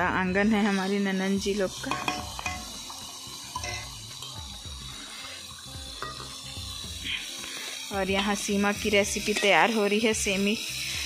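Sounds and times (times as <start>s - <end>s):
food sizzling in a pan: 0.0s - 11.0s
spatula scraping a pan: 0.6s - 10.2s.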